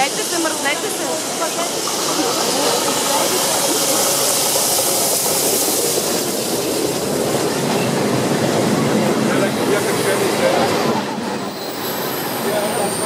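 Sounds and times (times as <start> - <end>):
steam hissing: 0.0 - 13.0
train wheels rumbling on rails: 0.0 - 13.0.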